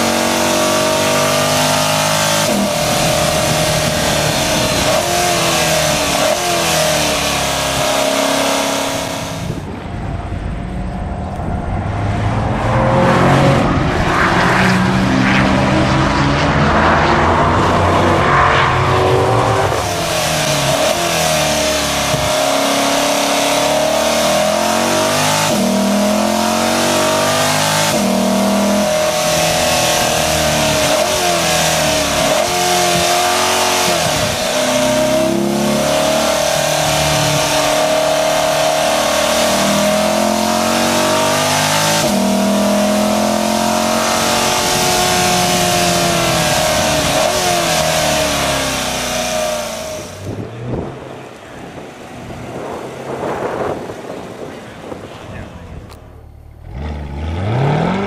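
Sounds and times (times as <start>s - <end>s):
sports car engine revving: 0.0s - 58.0s.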